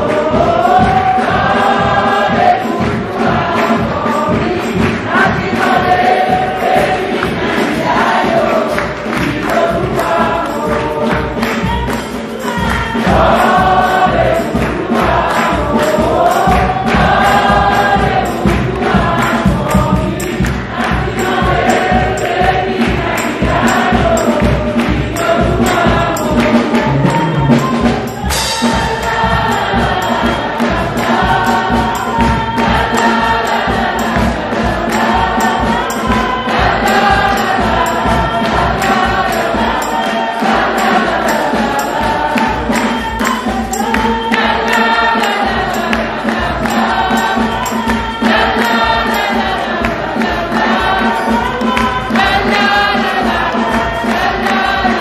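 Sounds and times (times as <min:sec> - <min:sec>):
hand claps: 0:00.0 - 0:28.3, 0:29.1 - 0:55.0
choir singing a hymn: 0:00.0 - 0:55.0.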